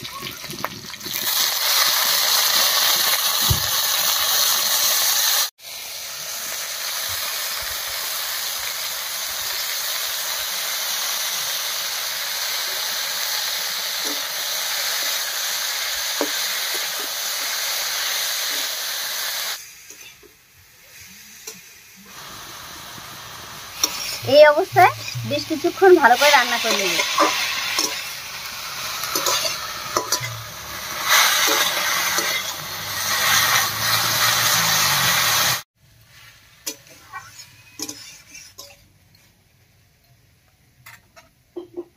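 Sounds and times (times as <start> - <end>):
food sizzling in hot oil: 0.0 - 39.8.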